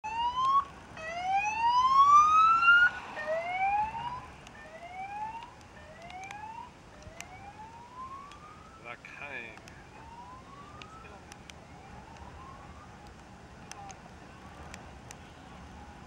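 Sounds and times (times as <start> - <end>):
police siren whooping: 0.0 - 14.2.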